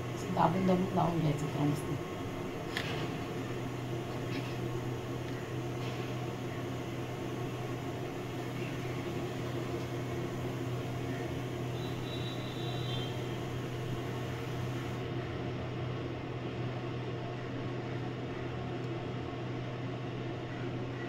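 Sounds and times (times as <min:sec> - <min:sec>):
fan humming and whooshing: 0:00.0 - 0:21.0.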